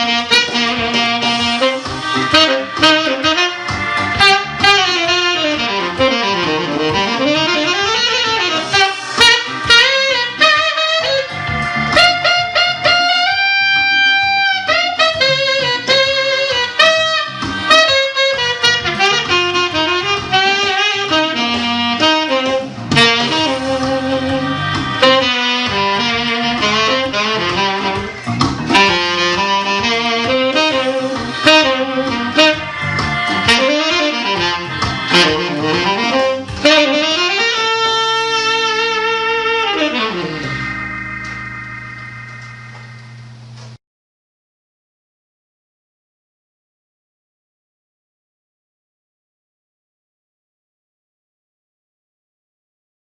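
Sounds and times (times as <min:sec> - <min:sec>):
saxophone playing jazzy melody: 0:00.0 - 0:43.1
backing track with drum hits: 0:00.0 - 0:43.7.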